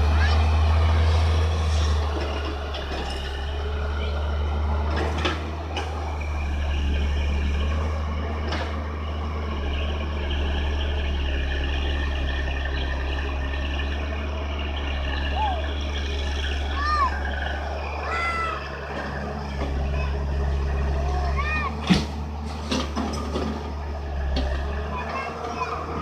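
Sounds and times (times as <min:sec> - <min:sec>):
excavator diesel engine droning: 0:00.0 - 0:26.0.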